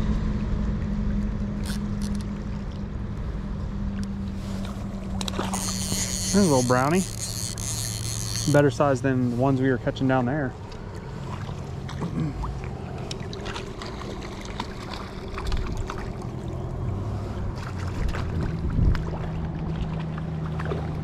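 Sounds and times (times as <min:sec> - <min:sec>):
shallow stream running: 0:00.9 - 0:21.0
water sloshing: 0:04.1 - 0:21.0.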